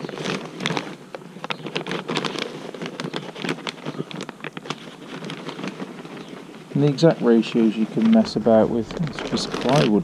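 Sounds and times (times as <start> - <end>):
plastic sack crinkling: 0.0 - 10.0.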